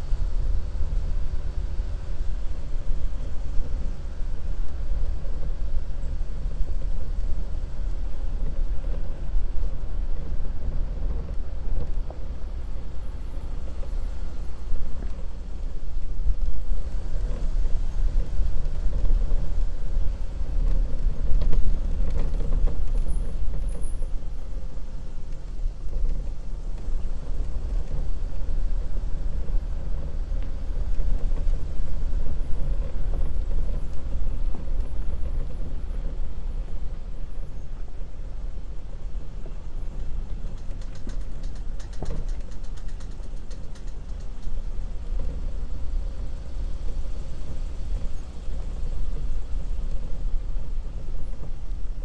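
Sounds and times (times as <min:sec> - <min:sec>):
diesel engine rumbling: 0:00.0 - 0:52.0
tyres on dirt trail: 0:00.0 - 0:52.0.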